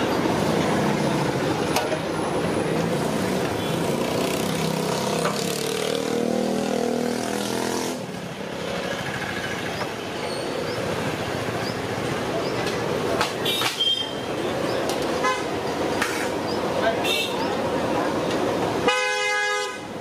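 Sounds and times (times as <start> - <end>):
vehicle engines running: 0.0 - 18.9.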